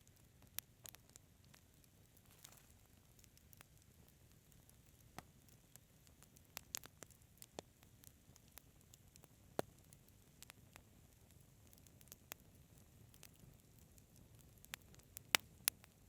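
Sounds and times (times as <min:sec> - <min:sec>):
faint low hiss: 0:00.0 - 0:16.0
wood fire crackling: 0:00.0 - 0:16.0.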